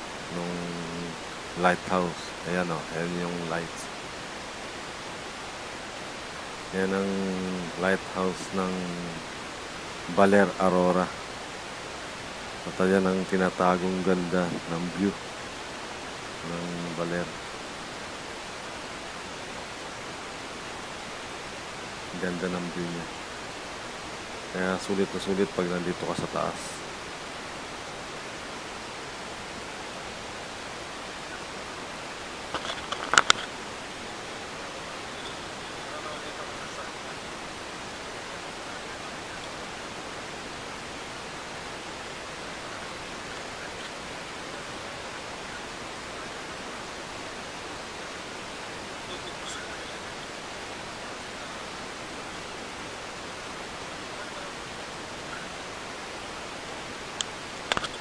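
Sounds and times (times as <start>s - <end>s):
outdoor background hiss: 0.0s - 58.0s
steady rushing noise: 0.0s - 58.0s.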